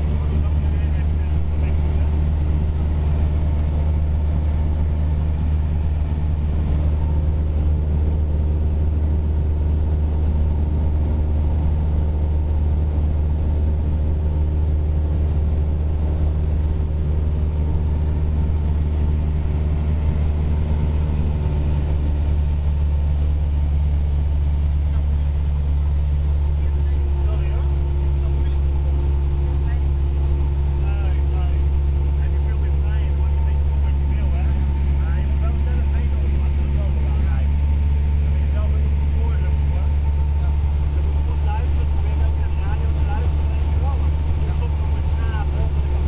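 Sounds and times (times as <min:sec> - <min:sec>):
propeller plane engine droning: 0:00.0 - 0:46.0.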